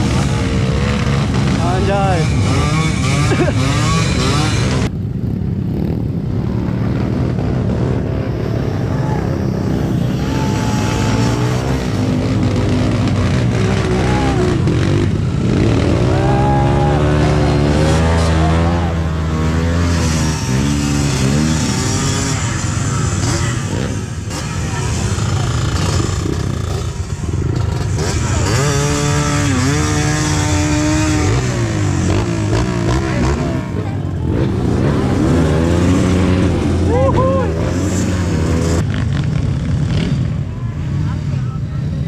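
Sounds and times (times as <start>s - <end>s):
motorcycle engine revving: 0.0s - 41.6s.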